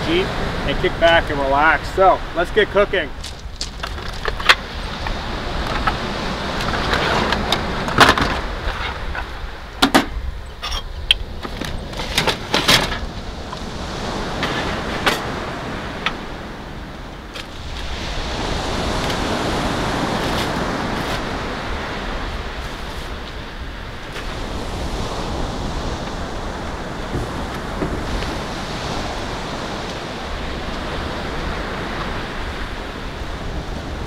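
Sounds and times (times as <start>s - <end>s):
surf: 0.0s - 10.4s, 11.2s - 34.0s
wind: 0.0s - 34.0s.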